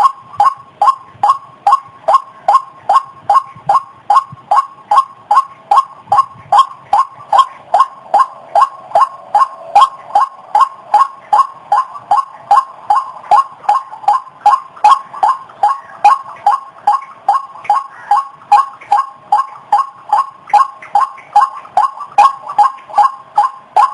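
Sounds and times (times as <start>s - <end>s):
waterhen calling: 0.0s - 23.9s.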